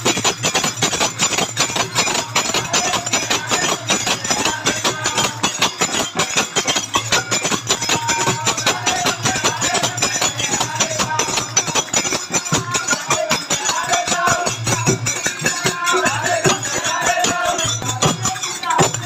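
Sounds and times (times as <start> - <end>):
fast hand percussion: 0.0 - 19.0
jingling cymbals: 0.0 - 19.0.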